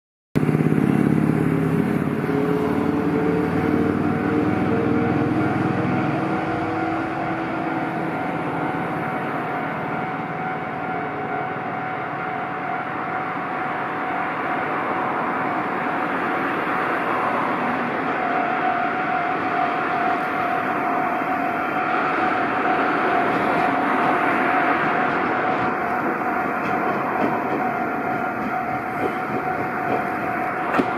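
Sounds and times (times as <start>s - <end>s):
low engine-like drone: 0.4s - 30.9s
train running noise: 0.4s - 30.9s
level crossing alarm ringing: 2.3s - 30.9s.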